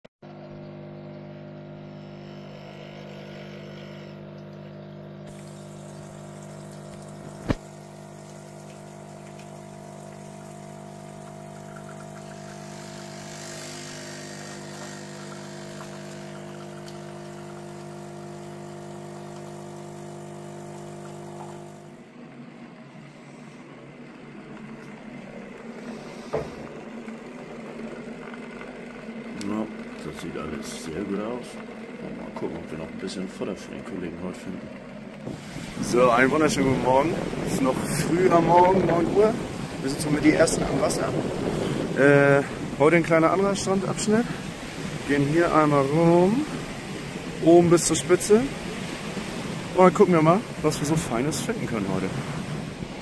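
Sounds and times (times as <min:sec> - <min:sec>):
coffee machine pump humming: 0:00.2 - 0:53.0
vibratory tumbler buzzing: 0:00.7 - 0:22.1, 0:22.8 - 0:53.0.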